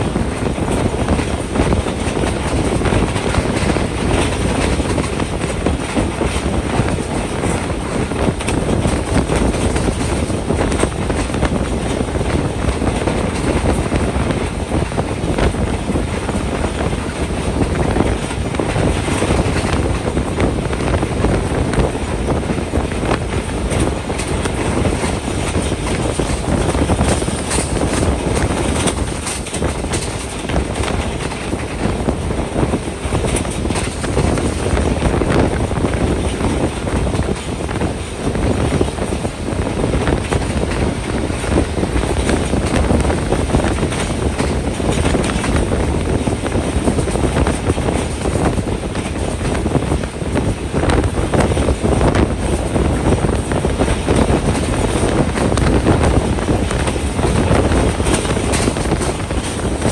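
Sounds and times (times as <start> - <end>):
train rumbling: 0.0 - 59.9
wheels clattering on rails: 0.0 - 59.9
wind: 0.0 - 59.9.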